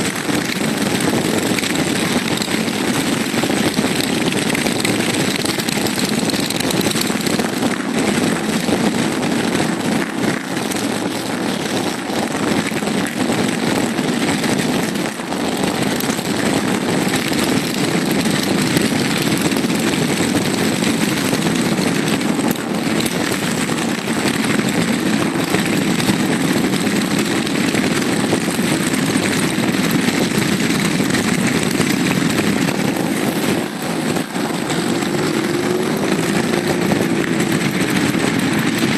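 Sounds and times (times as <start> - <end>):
motorcycles idling and revving: 0.0 - 38.9.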